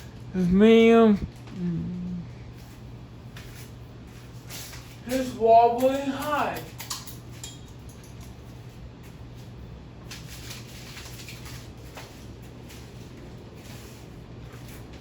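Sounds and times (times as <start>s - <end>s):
ceiling fan motor hum: 0.0s - 15.0s
fan blades rushing: 0.0s - 15.0s.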